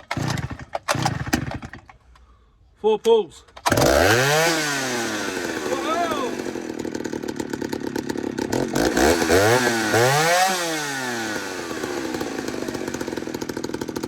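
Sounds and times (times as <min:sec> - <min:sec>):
chainsaw idling and revving: 0:00.0 - 0:01.9, 0:03.6 - 0:14.0.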